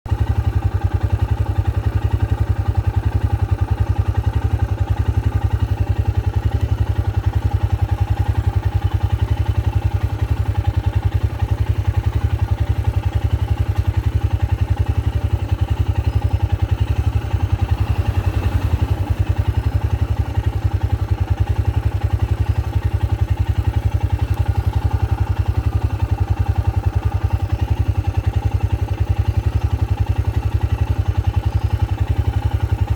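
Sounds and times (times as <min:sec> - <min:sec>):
vehicle engine idling: 0:00.0 - 0:32.9.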